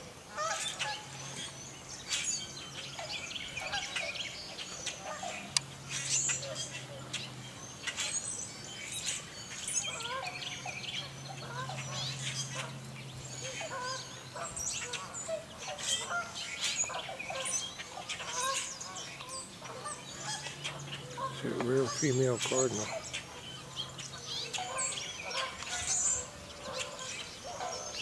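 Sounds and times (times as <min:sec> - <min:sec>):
blackbirds chattering: 0:00.0 - 0:28.0
waterfowl honking: 0:00.2 - 0:28.0.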